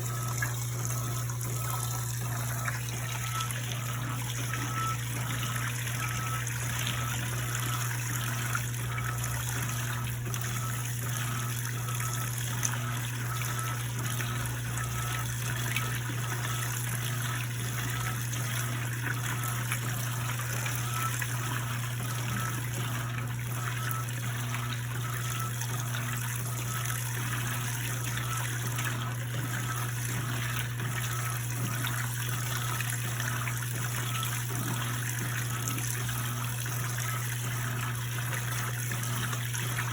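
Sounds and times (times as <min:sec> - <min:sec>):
water trickling in washing machine: 0:00.0 - 0:39.9.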